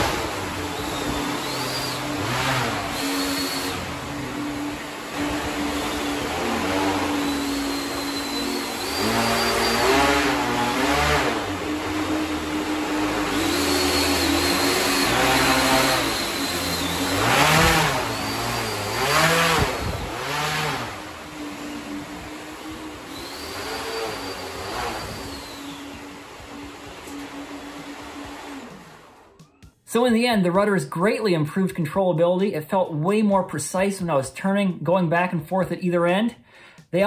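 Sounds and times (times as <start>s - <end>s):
electric motors and fans running: 0.0s - 29.7s
high whine: 0.0s - 31.2s.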